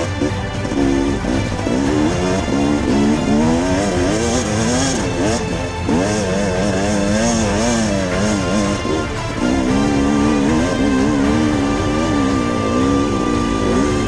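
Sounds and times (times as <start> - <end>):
motorcycle engine revving: 0.0 - 14.0
music playing: 0.0 - 14.0.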